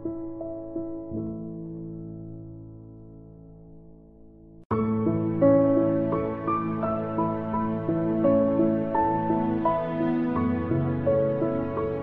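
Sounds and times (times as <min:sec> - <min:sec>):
slow piano notes: 0:00.0 - 0:12.0.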